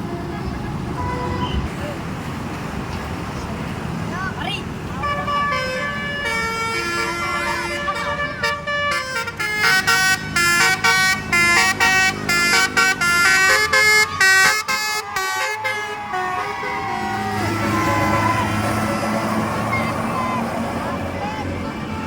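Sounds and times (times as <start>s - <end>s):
multi-tone bus horn tune: 0.0s - 1.7s, 5.0s - 22.0s.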